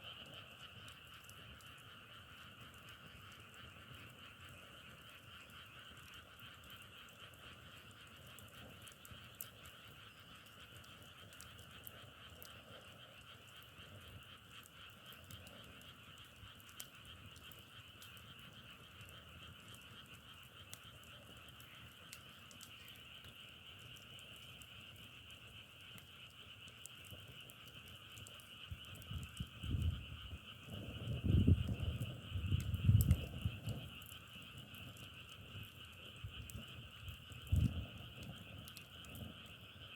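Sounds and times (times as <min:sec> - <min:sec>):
frog chorus: 0:00.0 - 0:39.9.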